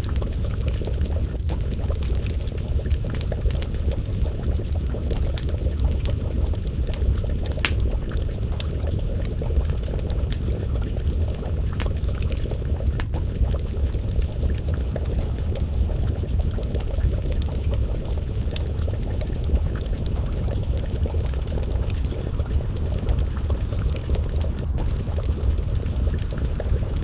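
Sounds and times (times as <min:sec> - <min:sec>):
pot of stew bubbling: 0:00.0 - 0:27.0
wood fire crackling: 0:00.0 - 0:27.0.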